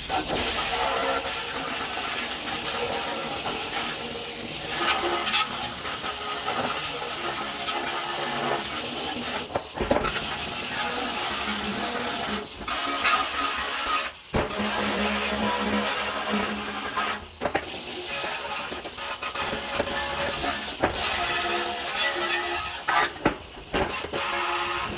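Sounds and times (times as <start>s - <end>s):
hissing clatter of metal work: 0.0s - 24.9s.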